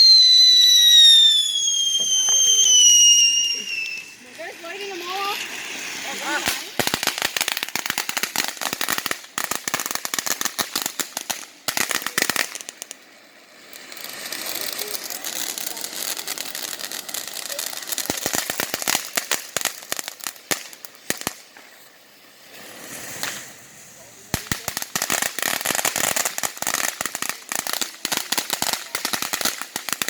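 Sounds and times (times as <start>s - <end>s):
fireworks hissing: 0.0s - 30.0s
fireworks popping: 0.0s - 30.0s.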